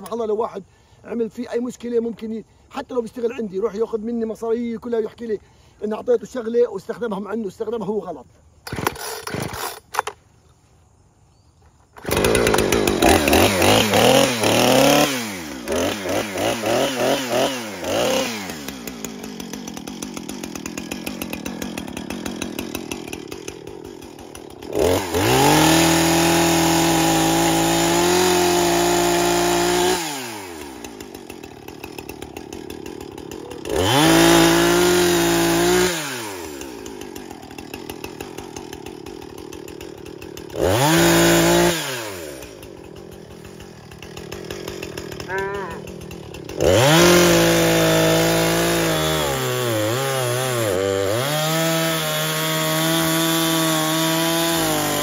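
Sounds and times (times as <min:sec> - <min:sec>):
chainsaw revving and idling: 0:00.0 - 0:10.2, 0:11.9 - 0:55.0.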